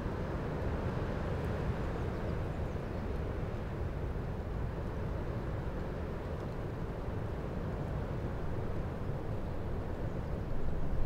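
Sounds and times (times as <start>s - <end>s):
strong wind through branches: 0.0s - 11.0s.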